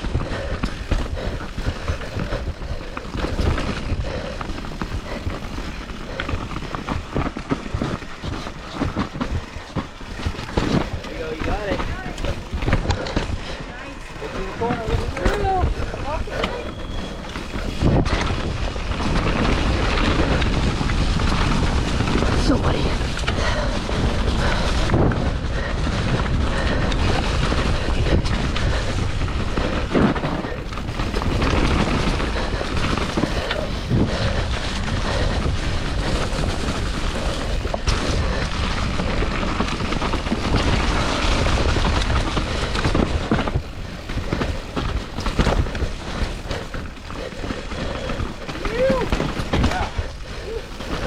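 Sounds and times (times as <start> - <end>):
wind buffeting microphone: 0.0 - 51.0
bike knocking over rough ground: 0.6 - 51.0.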